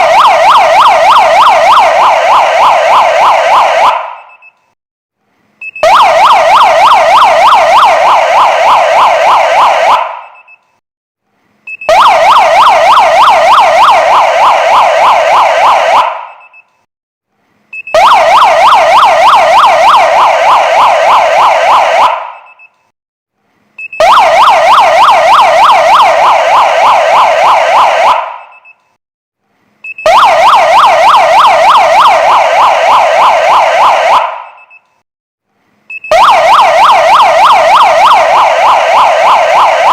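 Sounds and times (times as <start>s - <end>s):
electronic siren yelp: 0.0s - 4.7s, 5.6s - 10.7s, 11.7s - 16.7s, 17.8s - 22.8s, 23.8s - 28.8s, 29.8s - 35.0s, 35.9s - 39.9s.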